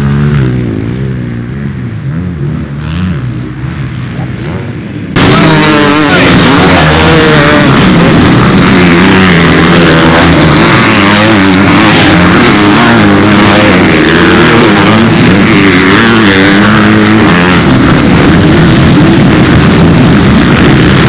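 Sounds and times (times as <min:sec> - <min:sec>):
dirt bike engines racing: 0:00.0 - 0:21.0.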